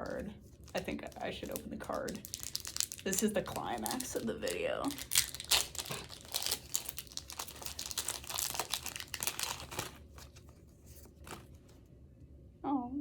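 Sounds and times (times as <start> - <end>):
paper crinkling and tearing: 0.0 - 11.8.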